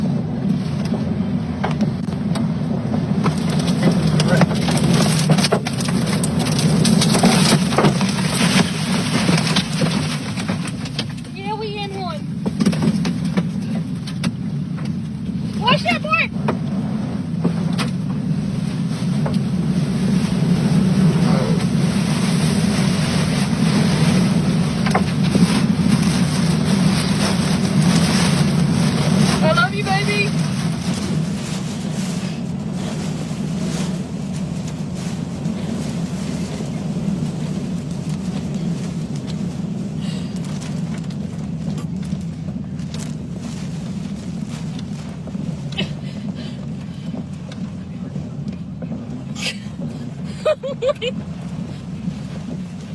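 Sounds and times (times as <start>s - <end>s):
vehicle noise inside cab: 0.0s - 52.9s
wind buffeting a truck: 0.0s - 52.9s.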